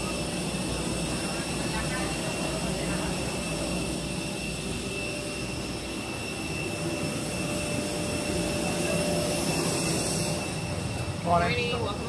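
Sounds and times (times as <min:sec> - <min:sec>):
jet turbine whine and rumble: 0:00.0 - 0:12.0.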